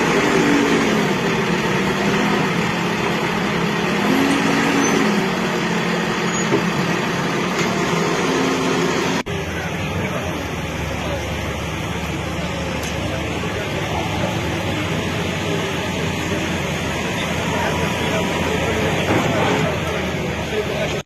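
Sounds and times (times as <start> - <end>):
heavy vehicle engine running: 0.0 - 21.0.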